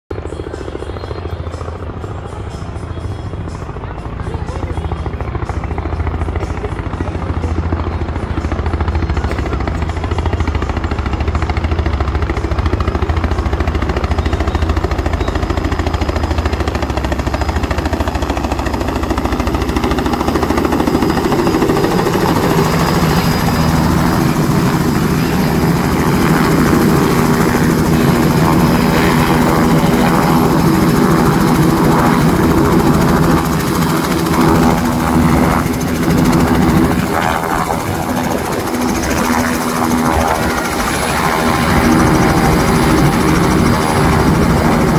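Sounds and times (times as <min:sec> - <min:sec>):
helicopter rotor and engine: 0:00.1 - 0:44.9.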